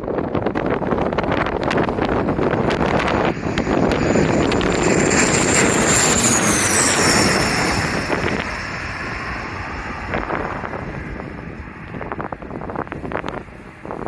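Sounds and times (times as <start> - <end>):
airliner passing overhead: 0.0 - 14.0
wind buffeting microphone: 0.0 - 14.0.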